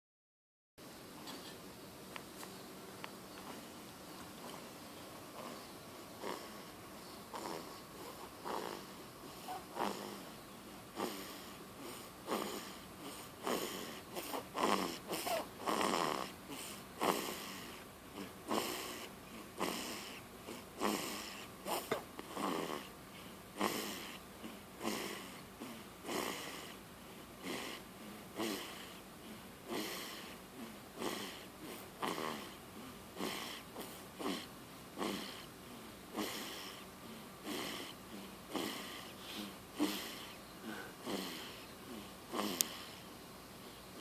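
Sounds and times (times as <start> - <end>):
rasping snores: 5.4 - 26.8, 27.4 - 43.1.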